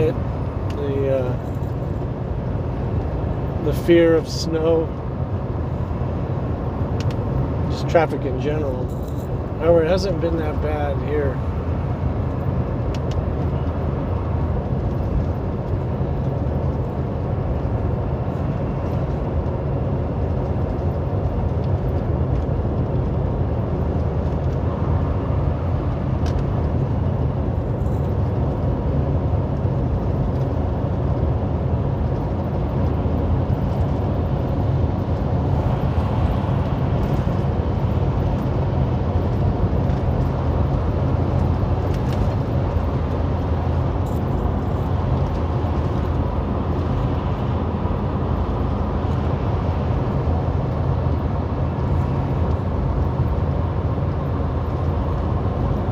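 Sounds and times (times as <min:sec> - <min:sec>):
road noise: 0:00.0 - 0:55.9
truck engine rumble: 0:00.0 - 0:55.9.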